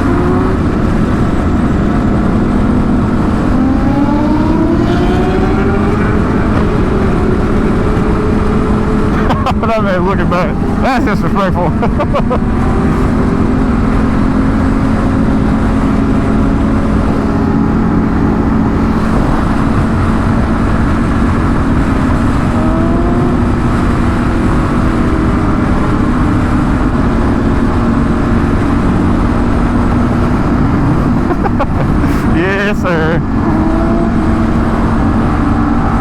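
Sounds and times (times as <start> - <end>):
motorcycle engine cruising: 0.0 - 36.0
wind rush on microphone: 0.0 - 36.0.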